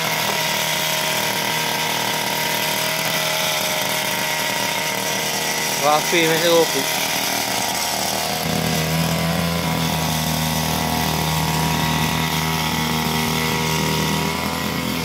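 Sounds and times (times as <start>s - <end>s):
brush cutter engine running: 0.0s - 15.0s.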